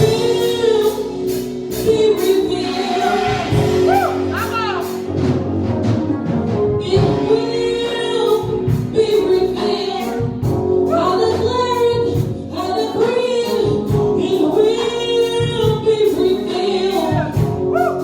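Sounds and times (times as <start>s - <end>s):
voices singing with vibrato: 0.0s - 5.1s, 6.9s - 18.0s
steady drum beat: 0.0s - 7.4s, 8.3s - 18.0s.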